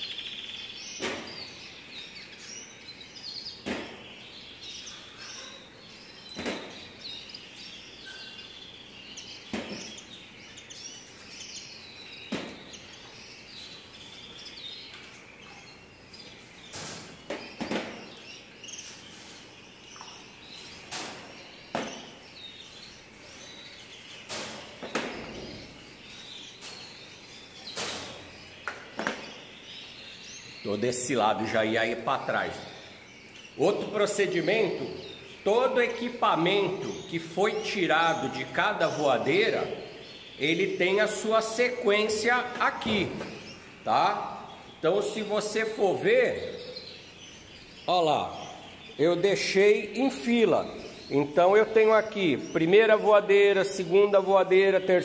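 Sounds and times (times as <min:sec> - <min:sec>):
canaries chirping: 0:00.0 - 0:55.0.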